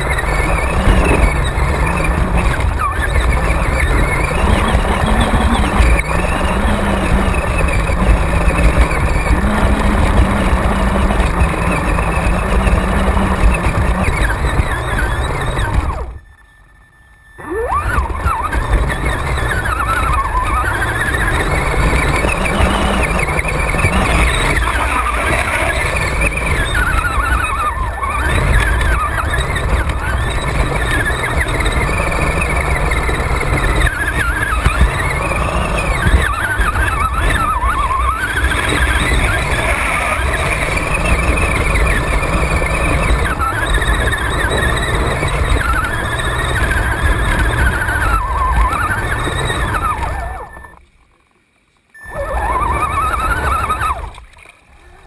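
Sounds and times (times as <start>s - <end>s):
toy truck motor whine: 0.0s - 50.9s, 51.9s - 55.0s
constant rumble: 0.0s - 55.0s.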